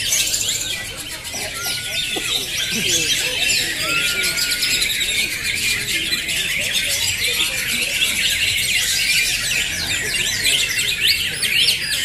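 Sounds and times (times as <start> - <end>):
chorus of birds singing: 0.0 - 12.0.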